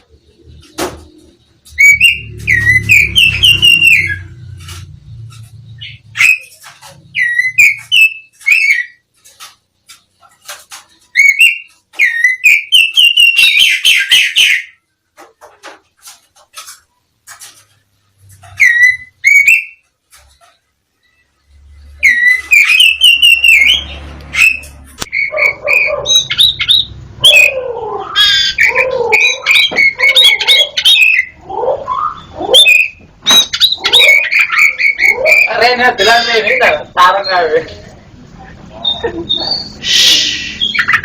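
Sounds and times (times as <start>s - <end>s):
songbird singing: 0.0s - 14.9s, 17.3s - 37.8s.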